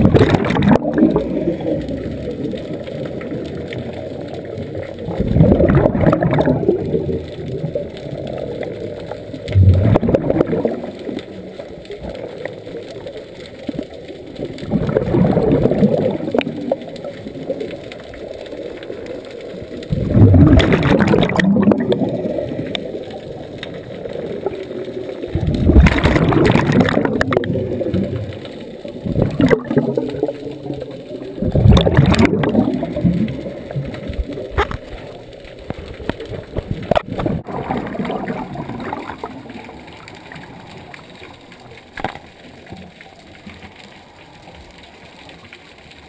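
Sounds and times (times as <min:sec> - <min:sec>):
gurgling rush of exhaled bubbles: 0:00.0 - 0:43.7.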